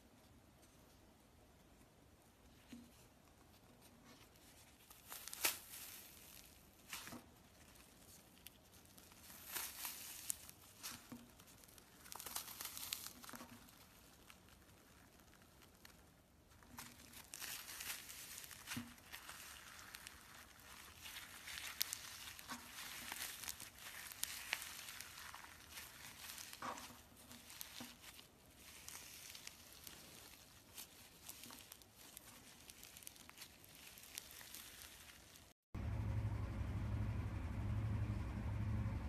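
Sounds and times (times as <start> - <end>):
slime crackling and tearing: 4.1 - 35.6.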